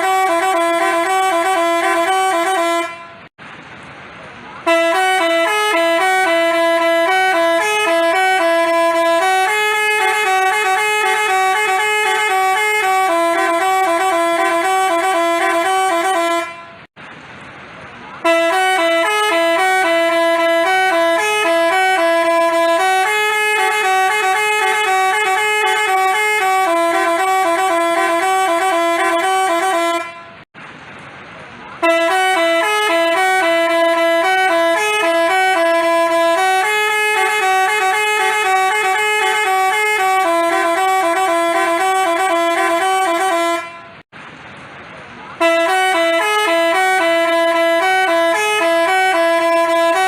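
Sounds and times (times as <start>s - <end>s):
multi-tone bus horn playing tune: 0.0s - 3.3s, 4.6s - 17.0s, 18.2s - 30.5s, 31.8s - 44.1s, 45.4s - 50.0s.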